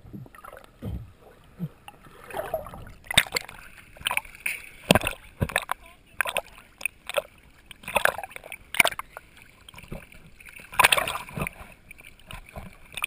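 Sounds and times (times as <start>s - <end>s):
water splashing against camera housing: 1.9s - 13.0s.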